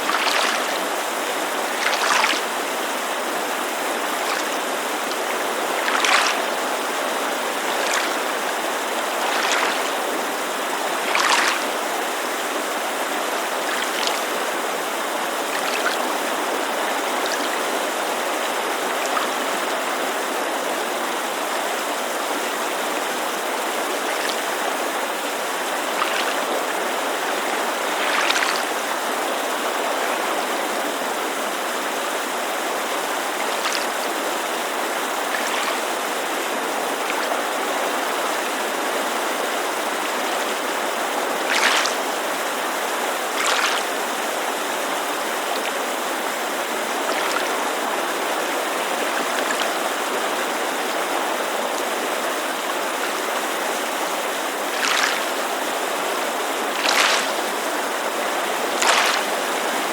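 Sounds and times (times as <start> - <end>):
water splashing: 0.0 - 19.9, 22.4 - 30.9, 32.8 - 59.9
creek rushing: 0.0 - 59.9
water lapping against shore: 0.0 - 59.9.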